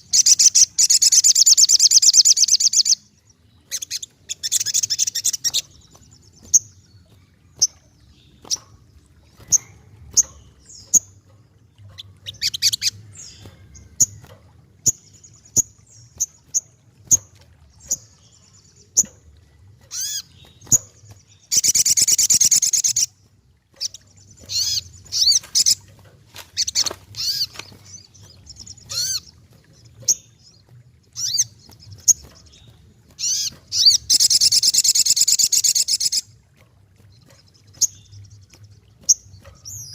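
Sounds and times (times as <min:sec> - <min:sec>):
small bird chirping: 0:00.0 - 0:03.1, 0:03.7 - 0:19.2, 0:19.8 - 0:36.2
rapid bird song: 0:00.0 - 0:39.9.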